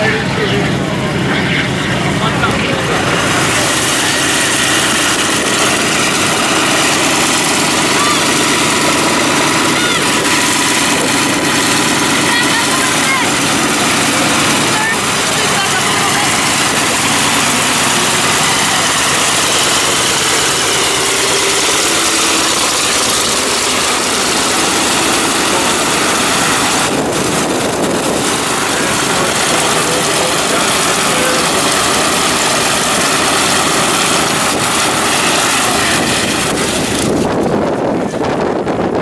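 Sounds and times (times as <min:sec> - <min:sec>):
propeller plane engine running: 0:00.0 - 0:39.0.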